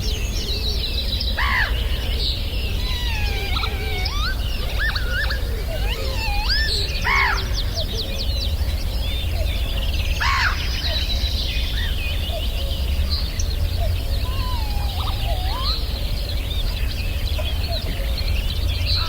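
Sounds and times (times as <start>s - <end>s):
birds whistling and chirping: 0.0s - 19.0s.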